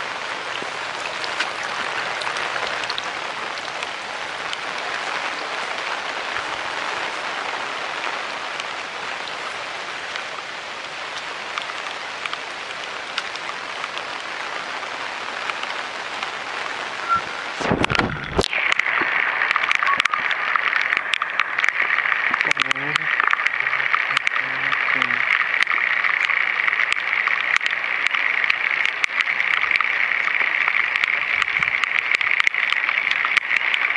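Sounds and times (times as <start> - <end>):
water rushing along bamboo channel: 0.0 - 33.9.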